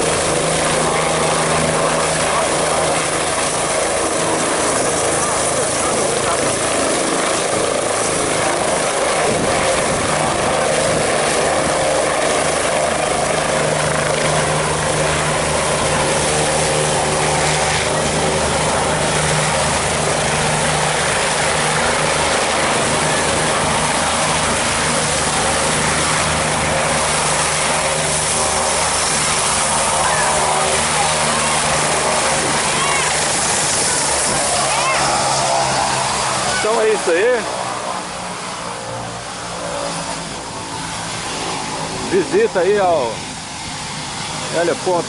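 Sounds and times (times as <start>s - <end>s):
helicopter turbine and rotor drone: 0.0s - 45.0s.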